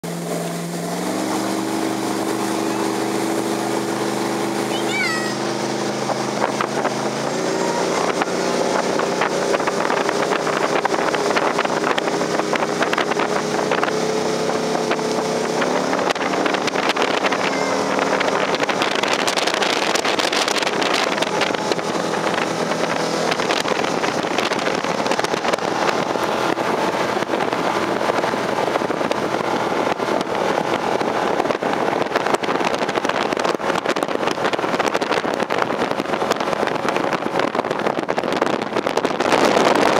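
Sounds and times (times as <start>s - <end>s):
speedboat engine: 0.0s - 39.9s
water rushing: 0.0s - 39.9s
wind buffeting microphone: 0.0s - 39.9s.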